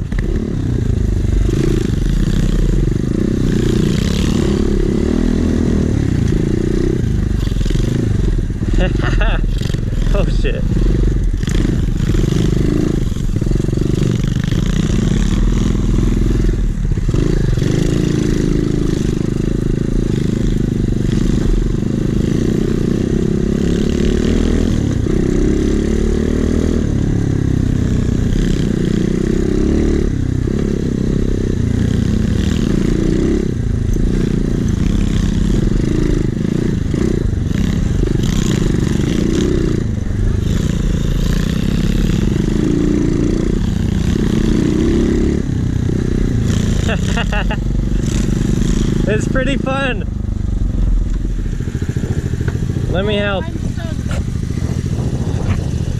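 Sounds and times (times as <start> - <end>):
pit bike engine revving: 0.0 - 55.9.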